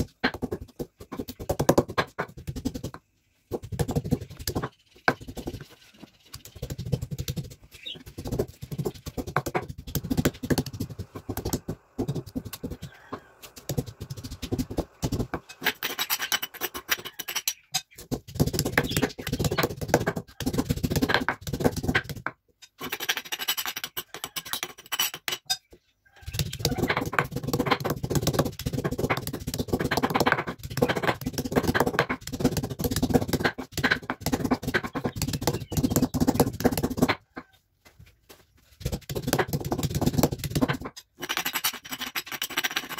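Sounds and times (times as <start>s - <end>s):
stone pestle pounding and scraping: 0.0s - 25.6s, 26.2s - 37.5s, 38.8s - 42.9s.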